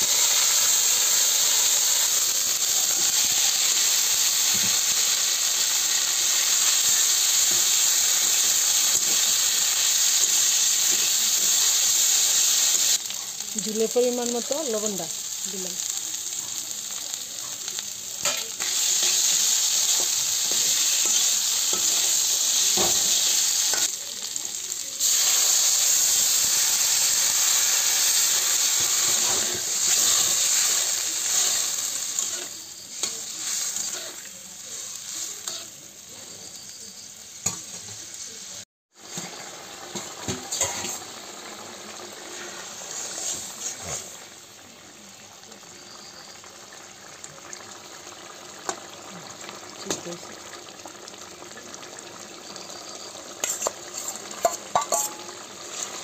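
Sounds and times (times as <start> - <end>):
curry sizzling in oil in a pan: 0.0 - 56.0.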